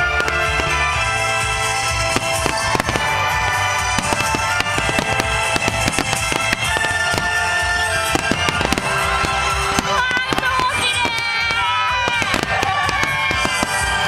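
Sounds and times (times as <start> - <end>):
fireworks bursting: 0.0 - 14.0
music: 0.0 - 14.0.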